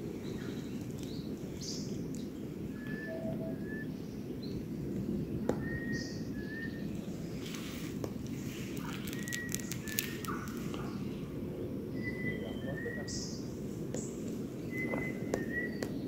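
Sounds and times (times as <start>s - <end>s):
low background rumble: 0.0s - 16.0s
birds whistling: 2.6s - 16.0s.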